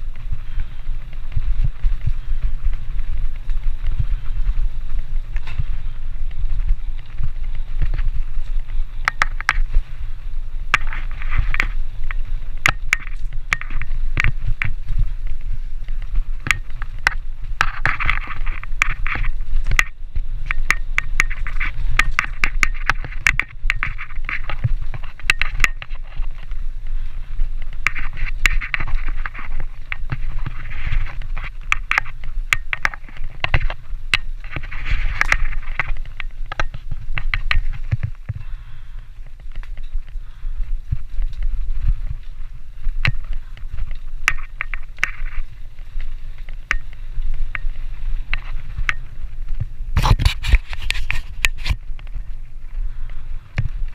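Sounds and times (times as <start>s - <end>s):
bike rattling over bumps: 0.0s - 53.9s
bike rumbling over dirt: 0.0s - 53.9s.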